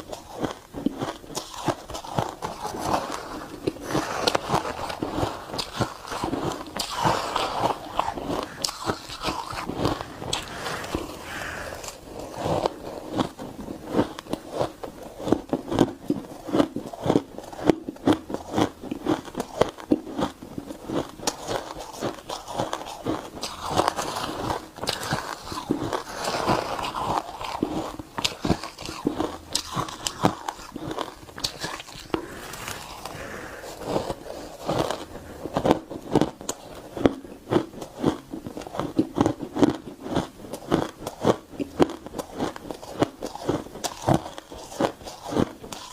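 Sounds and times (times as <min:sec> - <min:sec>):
crunching shaved ice: 0:00.0 - 0:45.9.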